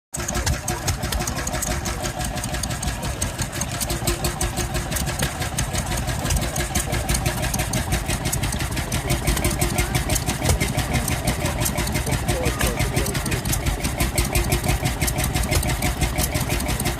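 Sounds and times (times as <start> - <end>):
two-stroke stationary engine running: 0.1 - 16.9.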